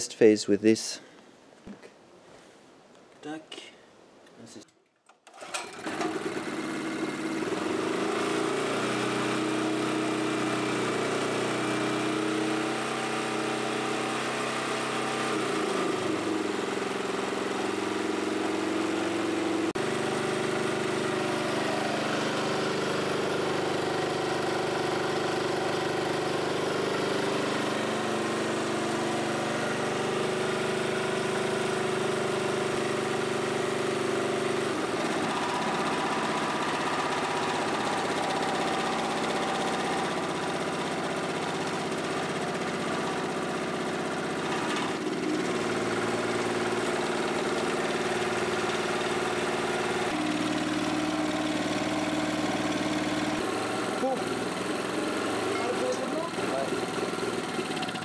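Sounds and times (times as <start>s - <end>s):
portable generator engine running: 5.4s - 58.0s.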